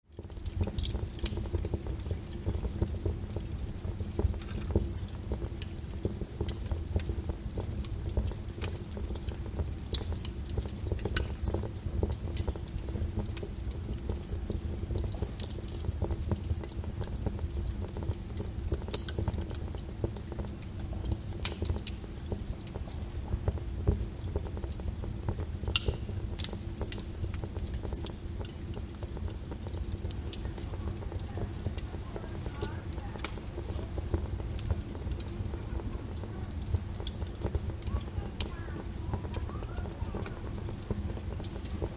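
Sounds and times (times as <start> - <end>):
logs crackling in wood stove: 0.0 - 41.9
low rumble of flames: 0.0 - 41.9.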